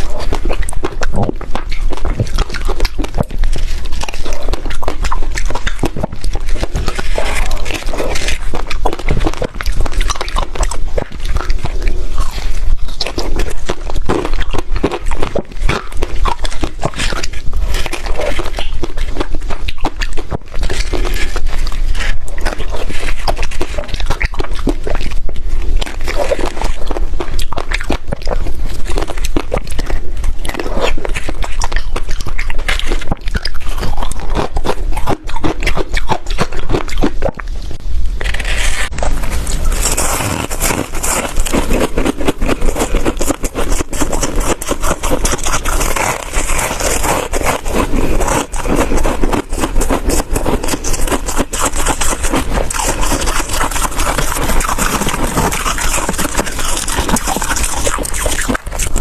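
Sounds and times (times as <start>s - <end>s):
crunchy chewing: 0.0s - 59.0s.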